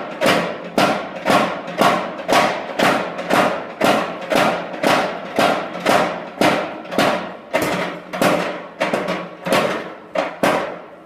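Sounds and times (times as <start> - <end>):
power hammer striking hot steel: 0.1 - 10.9.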